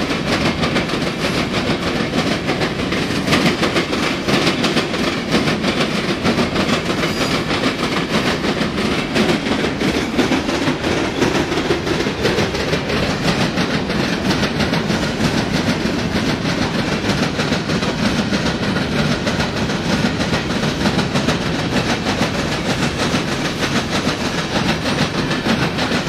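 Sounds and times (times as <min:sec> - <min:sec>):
train rumble: 0:00.0 - 0:26.0
train wheels clattering on rails: 0:00.0 - 0:26.0.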